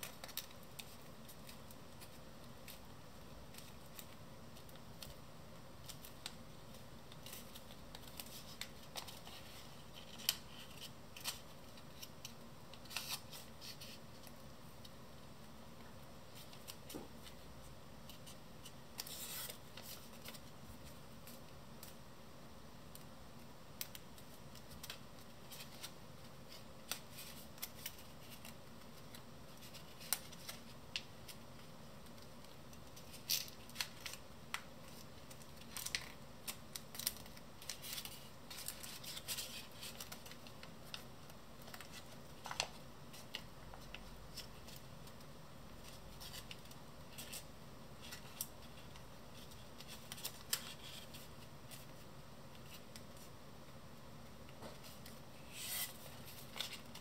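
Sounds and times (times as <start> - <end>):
paper crinkling and clicking: 0.0 - 15.0, 18.0 - 22.0, 22.8 - 53.3, 54.5 - 57.0.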